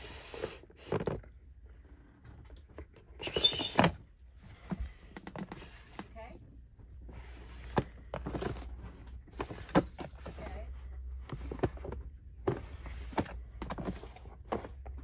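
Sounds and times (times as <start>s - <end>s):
plastic drawers sliding and clacking: 0.3s - 1.4s, 2.4s - 6.1s, 7.1s - 15.0s.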